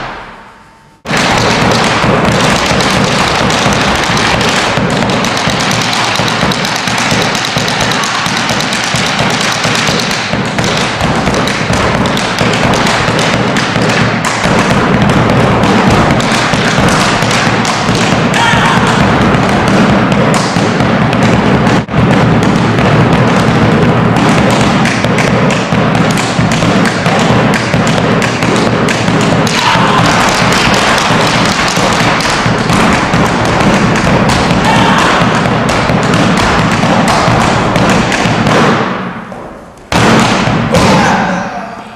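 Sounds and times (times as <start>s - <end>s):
bass drum drumming: 1.1s - 38.9s.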